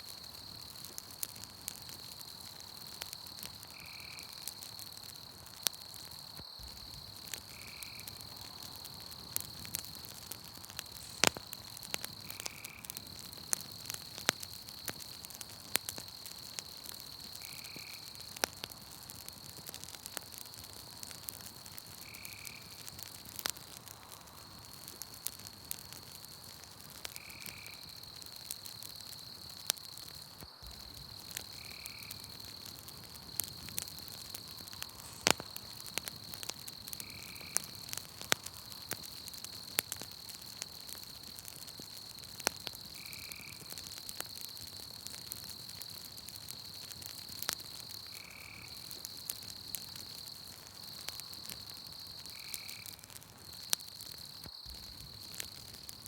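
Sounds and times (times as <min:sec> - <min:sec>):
campfire crackling and popping: 0:00.0 - 0:56.0
high insect trill: 0:02.0 - 0:18.3, 0:27.1 - 0:56.0.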